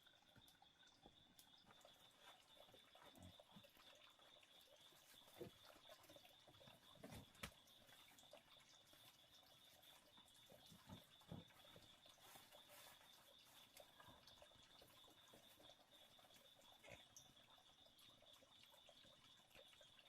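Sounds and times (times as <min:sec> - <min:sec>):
faint clicks and drips: 0:00.0 - 0:20.0.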